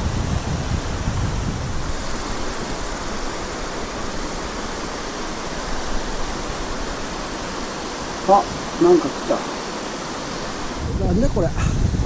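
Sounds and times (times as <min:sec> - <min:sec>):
wind rumble on microphone: 0:00.0 - 0:09.4, 0:10.0 - 0:12.0
stream water rushing: 0:00.0 - 0:12.0.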